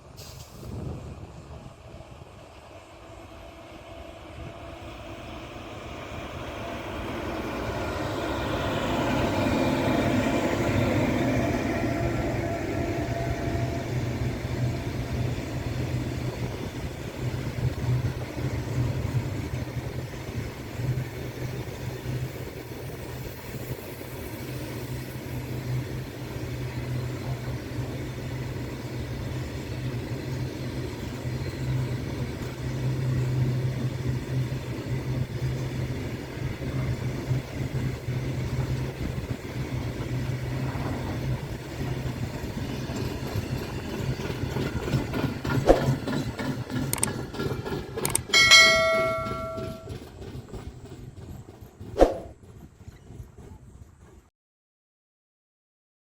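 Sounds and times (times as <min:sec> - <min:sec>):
freight train rumbling past: 0:00.0 - 0:54.3.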